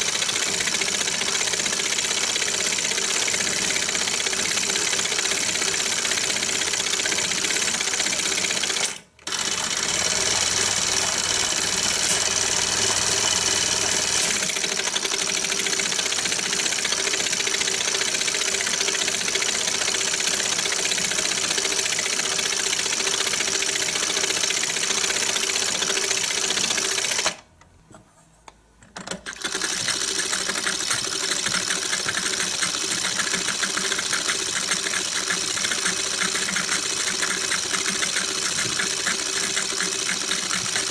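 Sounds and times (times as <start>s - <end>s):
film projector clattering: 0.0s - 27.4s, 29.1s - 40.9s.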